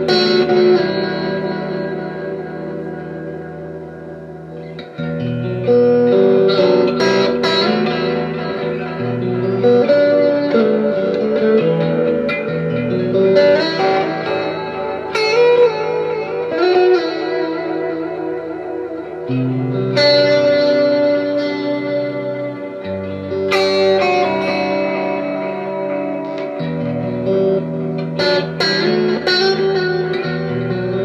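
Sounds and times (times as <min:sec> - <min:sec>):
electric guitar with reverb: 0:00.0 - 0:31.0.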